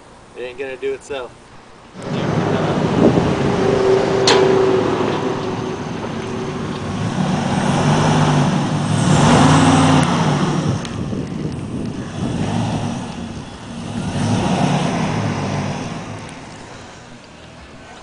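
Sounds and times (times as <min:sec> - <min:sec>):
car engine revving: 0:02.0 - 0:17.1.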